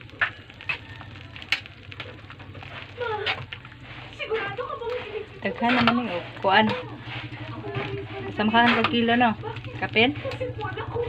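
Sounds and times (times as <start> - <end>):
steady low hum: 0.0 - 11.0
utensil clicking on metal pot: 0.1 - 11.0.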